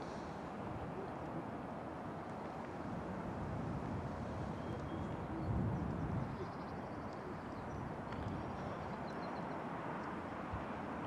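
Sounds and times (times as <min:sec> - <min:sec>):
constant outdoor hiss: 0:00.0 - 0:11.0.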